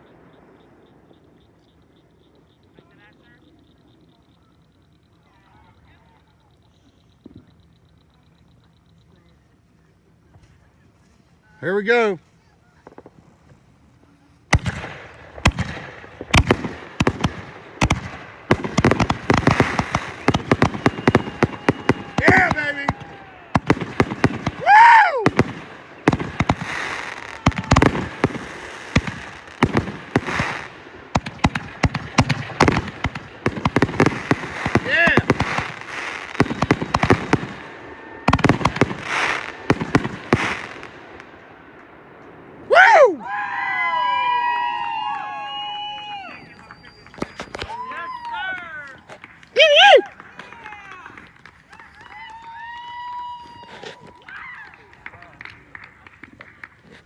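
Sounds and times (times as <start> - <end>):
fireworks crackling: 0.0 - 57.0
fireworks bangs: 10.3 - 57.0.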